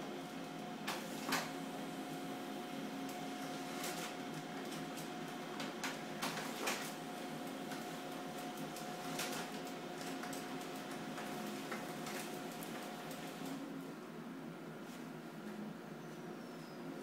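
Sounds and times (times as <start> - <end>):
machine humming with faint whine: 0.0 - 17.0.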